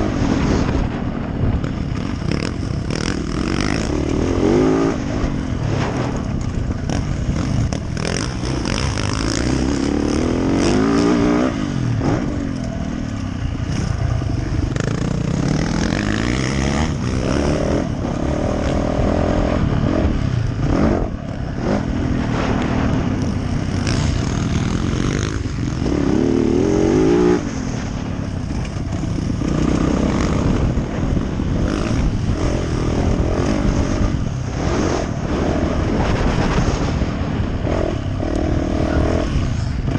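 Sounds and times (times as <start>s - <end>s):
motocross bike engine revving: 1.6s - 39.9s.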